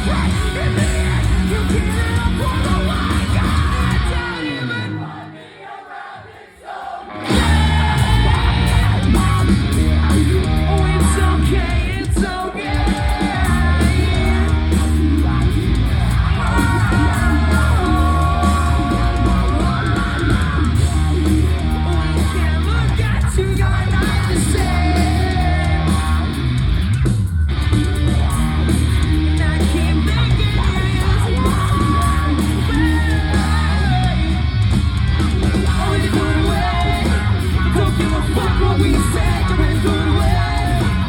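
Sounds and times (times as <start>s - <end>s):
bass guitar: 0.0s - 5.0s, 7.1s - 41.0s
distorted guitars: 0.0s - 5.4s, 7.0s - 41.0s
sung and yelled vocals: 0.0s - 26.9s, 27.8s - 41.0s
drums: 0.0s - 41.0s.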